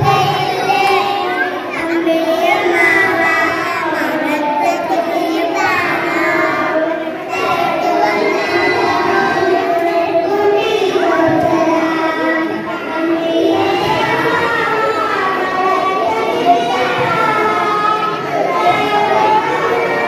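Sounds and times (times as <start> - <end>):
child singing into a microphone: 0.0 - 20.0.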